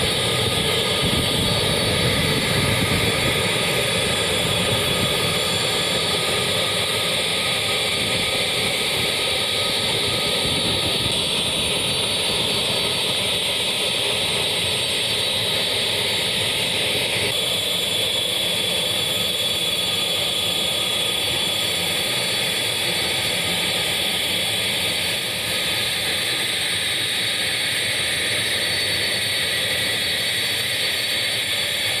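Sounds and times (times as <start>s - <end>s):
jet engines whining: 0.0s - 32.0s.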